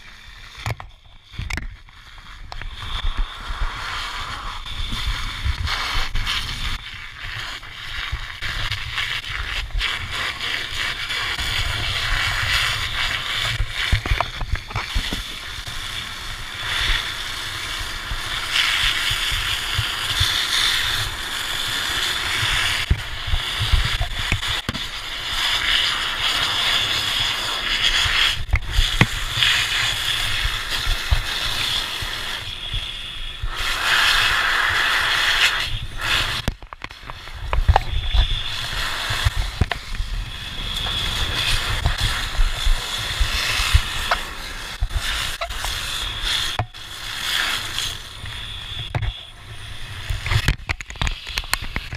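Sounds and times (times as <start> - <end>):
hose water spraying on hot metal: 0.0 - 51.9.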